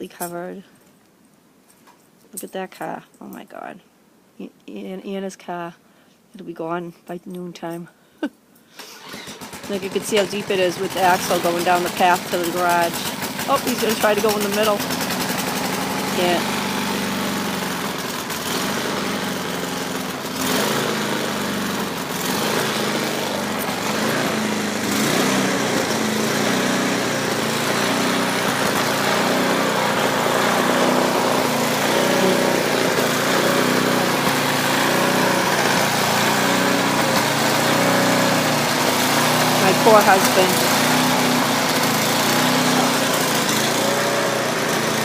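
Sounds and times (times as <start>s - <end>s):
small petrol engine labouring: 8.8s - 45.0s.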